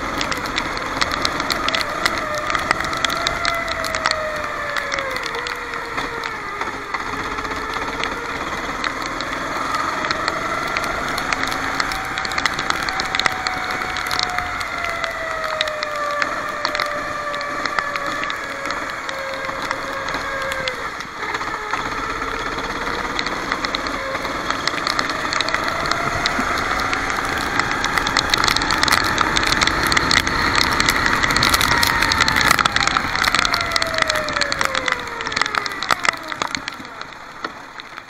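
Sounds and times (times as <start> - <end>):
crackling and rattling: 0.0 - 38.0
racing kart engine: 0.0 - 38.0.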